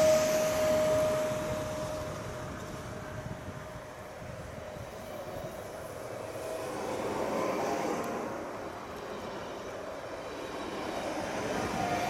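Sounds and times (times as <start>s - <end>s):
electric train drive whine: 0.0s - 12.0s
train wheels on rails: 0.0s - 12.0s.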